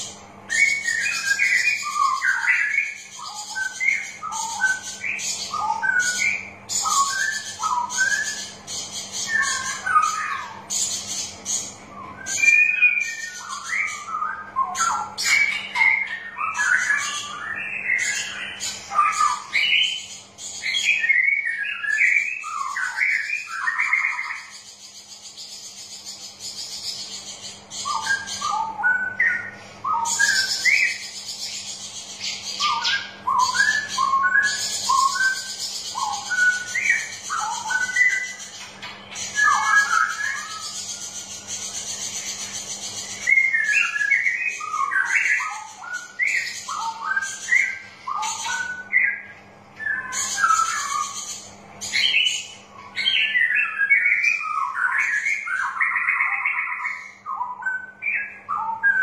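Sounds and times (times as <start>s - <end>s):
bulbul singing: 0.0s - 59.0s.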